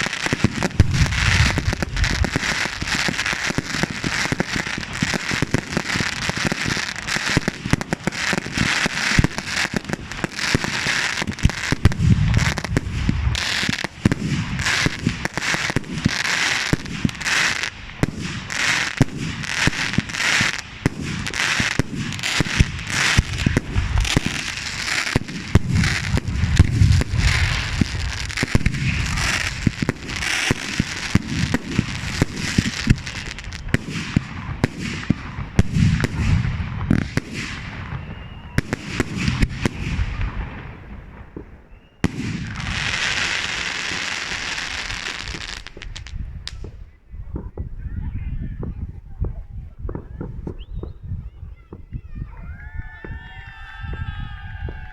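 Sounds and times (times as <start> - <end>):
fireworks sharp bangs: 0.0 - 48.0
fireworks crackling: 0.0 - 52.0, 52.9 - 54.9
low fireworks booms: 0.0 - 54.9.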